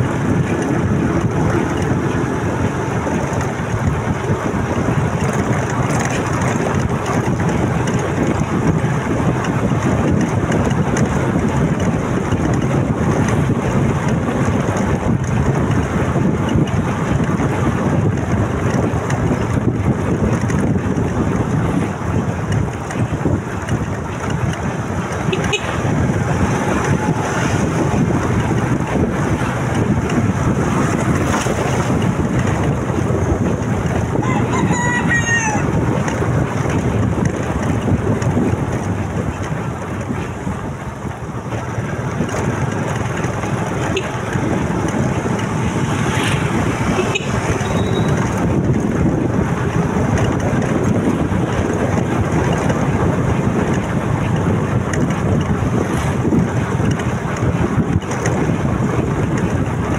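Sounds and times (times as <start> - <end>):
motorcycle engine: 0.0 - 59.9
wind rushing over microphone: 0.0 - 59.9.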